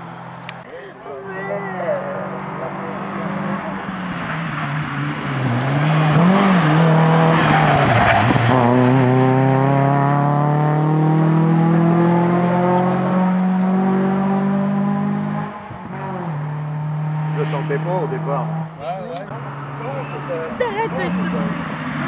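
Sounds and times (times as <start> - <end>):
rally car engine revving: 1.9 - 22.0.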